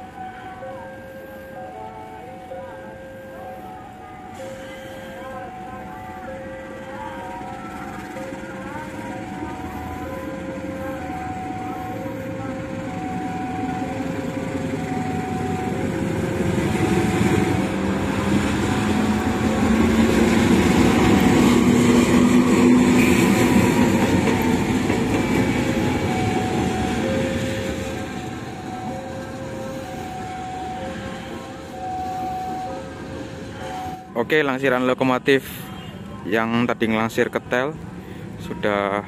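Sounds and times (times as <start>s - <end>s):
two-tone level-crossing alarm: 0.0s - 34.3s
diesel locomotive engine passing: 0.0s - 39.0s.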